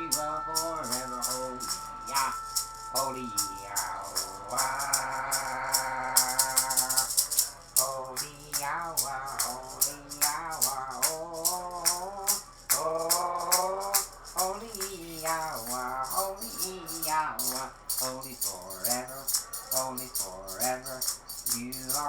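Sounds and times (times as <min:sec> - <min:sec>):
hand rattle shaken: 0:00.0 - 0:22.0
person singing wordless held notes: 0:00.0 - 0:22.0.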